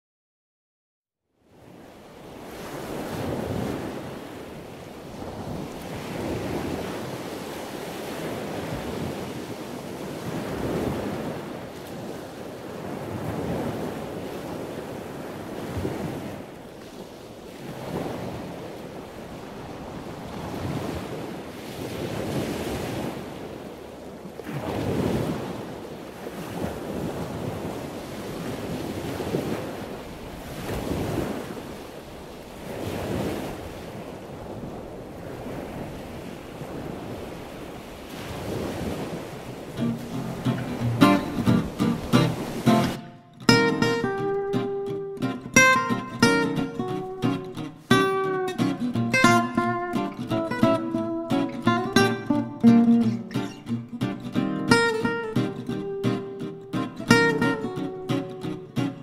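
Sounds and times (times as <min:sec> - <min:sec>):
ocean surf breaking: 0:01.6 - 0:59.0.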